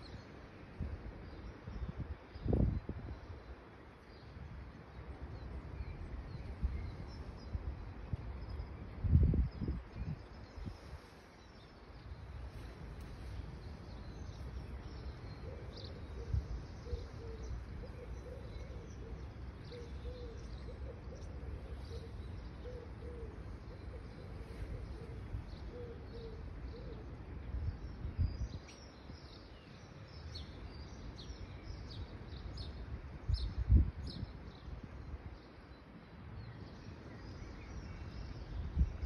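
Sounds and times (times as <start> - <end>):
wind rumble on microphone: 0.0 - 39.0
small birds chirping: 1.2 - 39.0.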